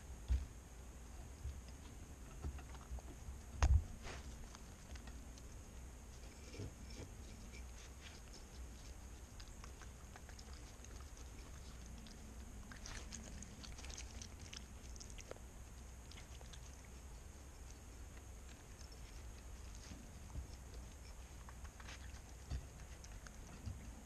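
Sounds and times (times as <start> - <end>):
raccoon chewing seeds: 0.9 - 24.0.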